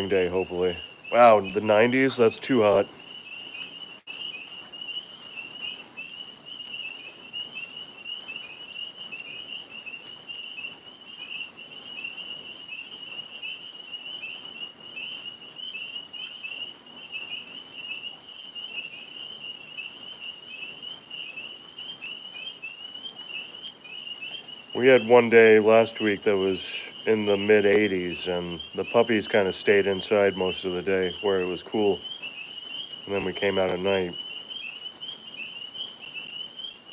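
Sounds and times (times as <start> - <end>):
tree frogs chirping: 0.0 - 36.9.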